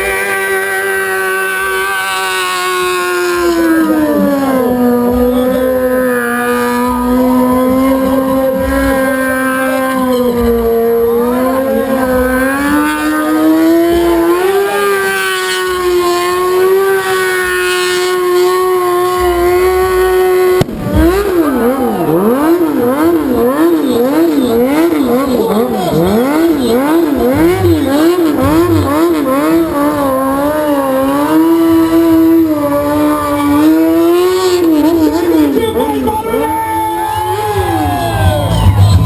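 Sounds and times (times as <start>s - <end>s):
engines revved up and down: 0.0s - 36.5s
motorcycle engines at high revs: 0.0s - 39.0s.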